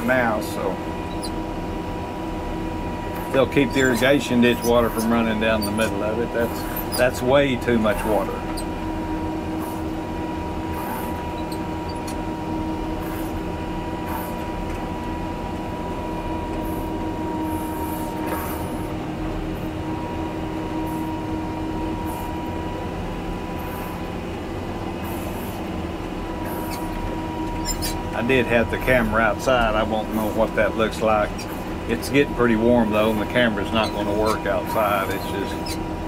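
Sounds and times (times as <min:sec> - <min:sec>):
diesel engine running: 0:00.0 - 0:36.0
steady whine: 0:00.0 - 0:36.0.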